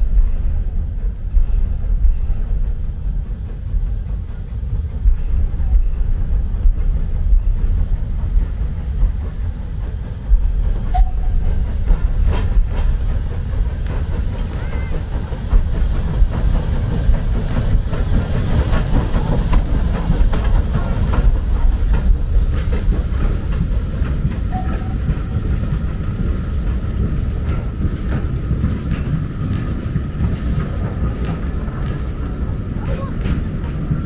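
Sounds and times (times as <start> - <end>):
steam hiss: 0.0 - 34.0
train rumbling: 0.0 - 34.0.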